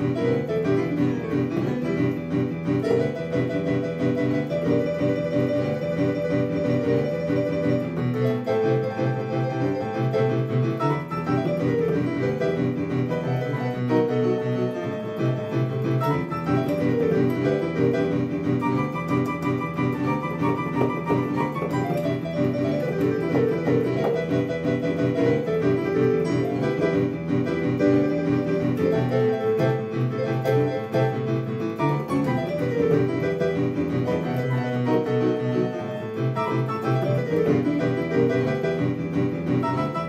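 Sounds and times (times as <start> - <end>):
boogie-woogie piano on keyboard: 0.0 - 40.0.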